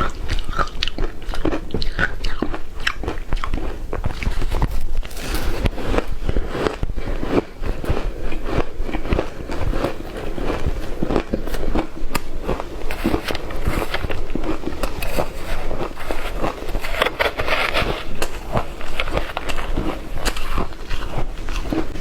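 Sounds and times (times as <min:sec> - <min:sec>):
shaved ice crunched and chewed: 0:00.0 - 0:22.0.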